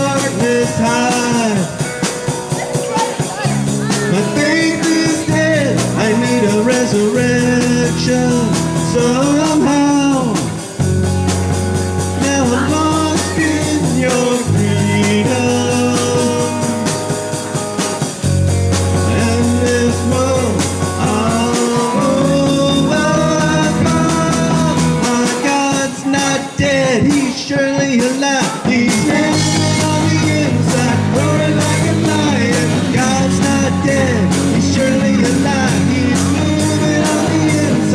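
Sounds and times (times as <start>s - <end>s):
person singing: 0.0s - 10.6s, 11.9s - 18.1s, 18.8s - 37.9s
keyboard chords: 0.0s - 26.8s, 28.6s - 37.9s
bass guitar: 0.0s - 37.9s
drum kit: 0.0s - 37.9s
electric guitar: 0.0s - 37.9s.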